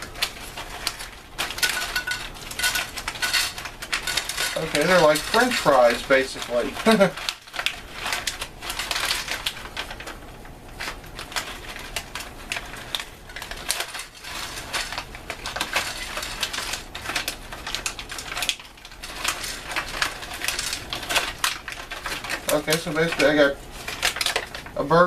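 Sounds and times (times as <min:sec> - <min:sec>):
plastic food pouches crinkling: 0:00.0 - 0:25.0.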